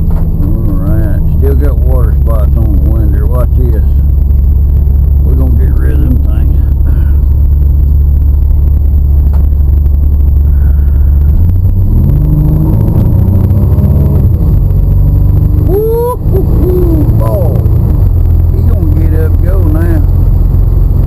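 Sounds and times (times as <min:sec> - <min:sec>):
pickup engine accelerating: 0:00.0 - 0:21.0.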